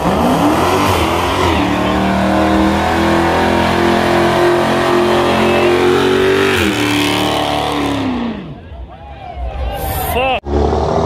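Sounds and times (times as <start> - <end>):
car engine revving: 0.0 - 8.6, 10.4 - 11.0
tires spinning on pavement: 0.0 - 8.8, 10.4 - 11.0.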